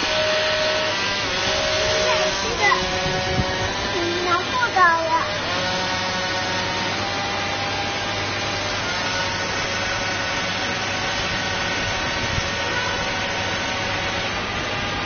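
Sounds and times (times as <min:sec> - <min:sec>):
electric fans whining: 0:00.0 - 0:15.0.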